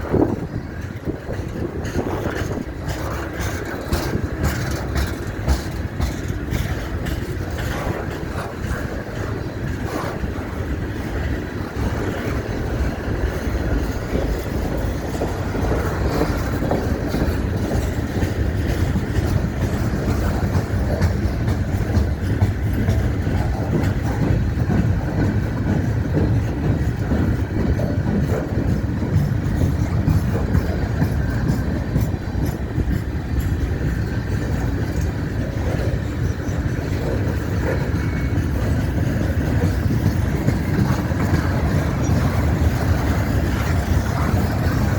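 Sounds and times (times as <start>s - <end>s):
freight train rumbling past: 0.0s - 44.9s.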